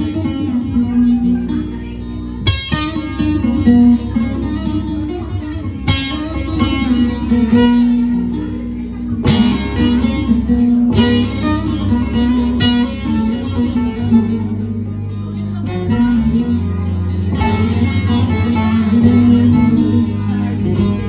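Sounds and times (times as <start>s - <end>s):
plucked string melody: 0.0s - 21.0s
strummed chords: 0.0s - 21.0s
sustained bass: 0.0s - 21.0s.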